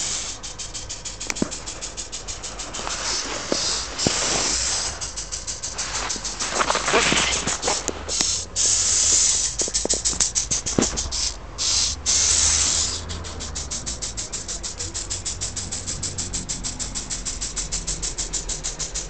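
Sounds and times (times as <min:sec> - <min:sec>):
rapid ticking of robot motors: 0:00.0 - 0:19.0
robot motors hissing: 0:00.0 - 0:19.0.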